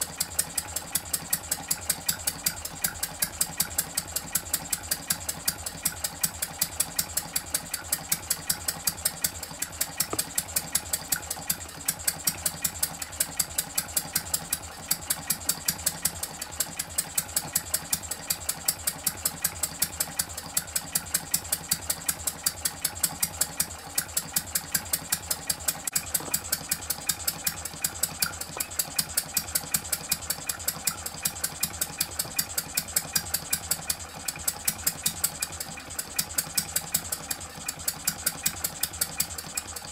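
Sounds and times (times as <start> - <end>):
model engine running: 0.0 - 39.9.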